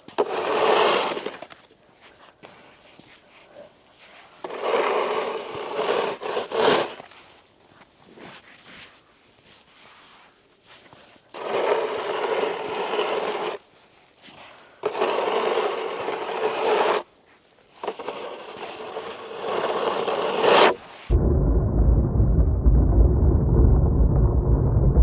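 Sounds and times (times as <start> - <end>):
snow shovel scraping on ice: 0.0 - 7.4, 8.0 - 21.1.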